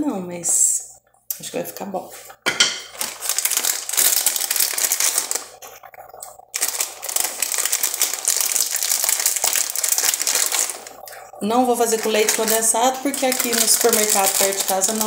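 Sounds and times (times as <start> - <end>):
plastic wrapper crinkling: 2.6 - 15.0.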